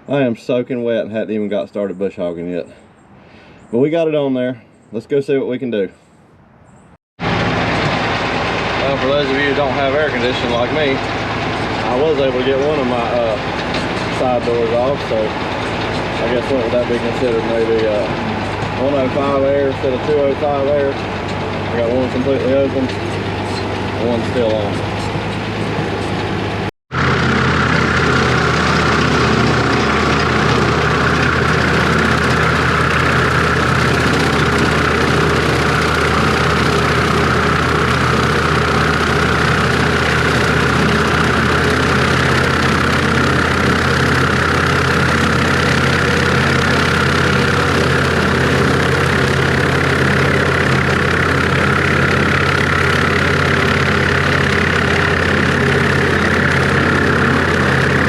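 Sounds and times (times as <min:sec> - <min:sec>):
tractor diesel engine running: 0:07.2 - 0:58.0.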